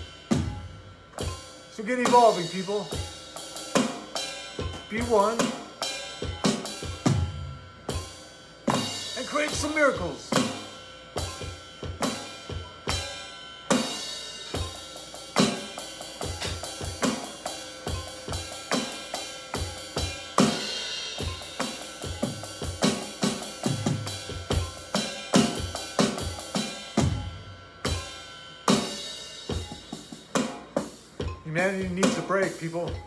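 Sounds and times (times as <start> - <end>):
electronic drum kit groove: 0.0 - 33.0.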